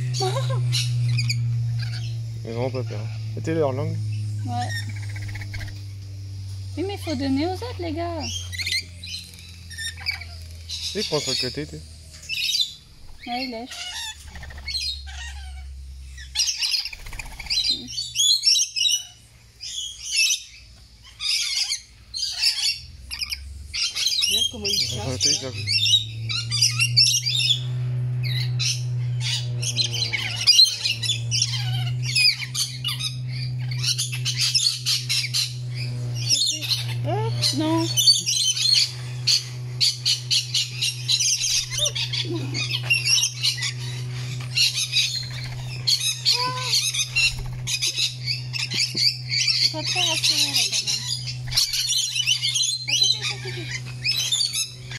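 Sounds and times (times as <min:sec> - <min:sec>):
lorikeets squawking: 0:00.0 - 0:54.9
low hum: 0:00.0 - 0:54.9
parrots screeching and chattering: 0:00.0 - 0:54.9.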